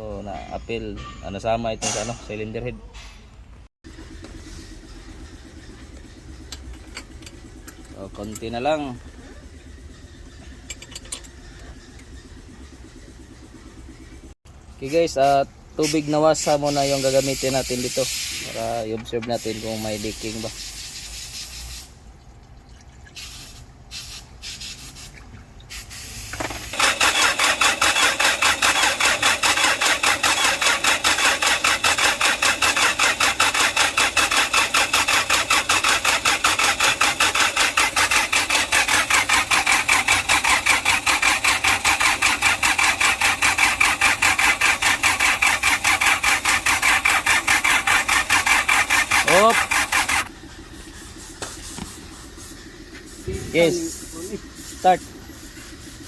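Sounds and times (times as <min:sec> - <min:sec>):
diesel engine cranking: 0:00.0 - 0:56.0.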